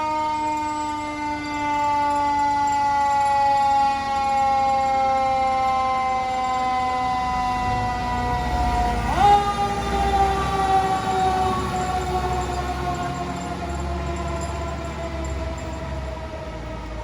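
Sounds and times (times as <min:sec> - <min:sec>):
mechanical siren winding down: 0:00.0 - 0:17.0.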